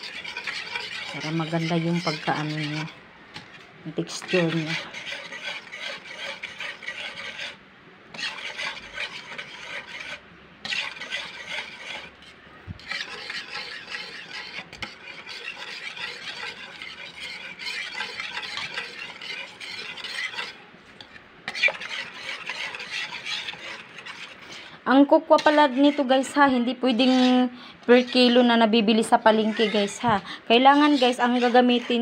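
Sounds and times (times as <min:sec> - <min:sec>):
whisk stirring thick batter: 0:00.0 - 0:32.0.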